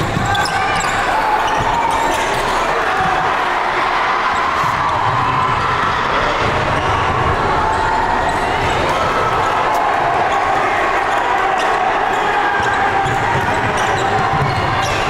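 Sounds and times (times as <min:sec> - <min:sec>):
crowd noise and chatter: 0:00.0 - 0:15.0.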